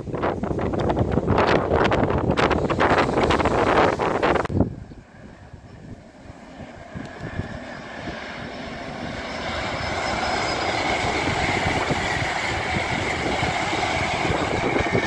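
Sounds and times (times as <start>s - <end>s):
train passing at speed: 0.0s - 15.0s
high whine: 0.2s - 15.0s.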